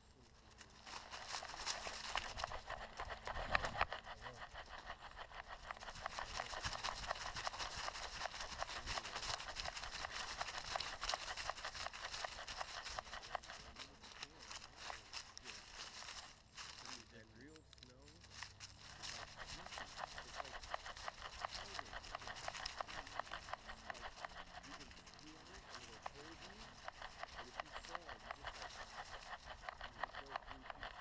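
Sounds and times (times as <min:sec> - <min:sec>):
footsteps crunching on trail: 0:00.4 - 0:31.0.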